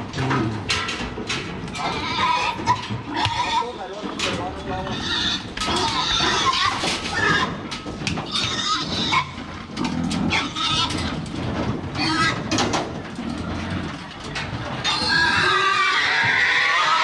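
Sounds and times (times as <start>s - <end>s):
metal crate bars clanking: 0.0s - 16.8s
pigs grunting and squealing: 0.0s - 17.0s.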